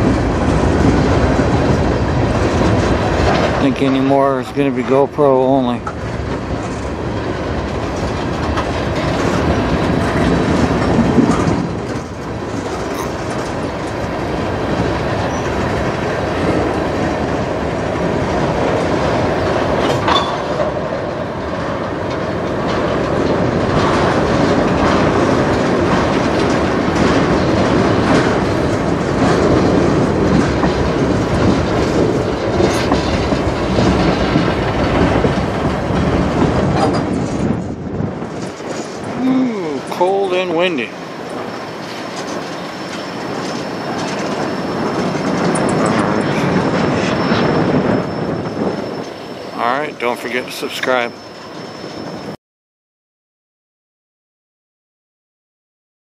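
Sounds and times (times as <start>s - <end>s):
steel wheels rumbling on rail: 0.0s - 52.4s
wheels clacking over rail joints: 0.0s - 52.4s.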